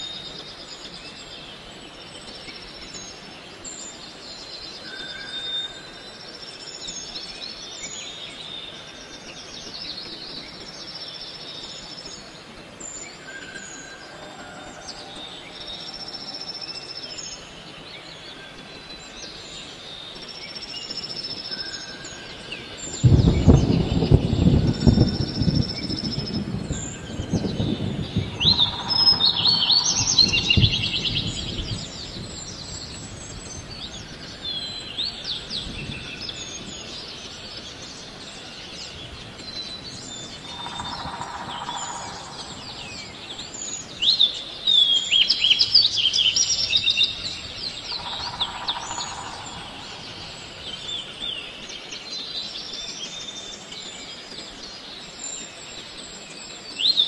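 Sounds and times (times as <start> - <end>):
forest birds chirping and singing: 0.0 - 57.0.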